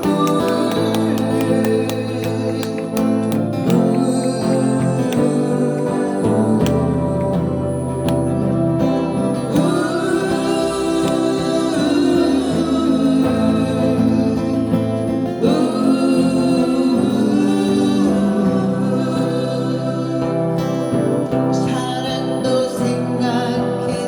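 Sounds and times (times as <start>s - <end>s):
guitar accompaniment: 0.0s - 24.0s
person singing: 0.0s - 24.0s.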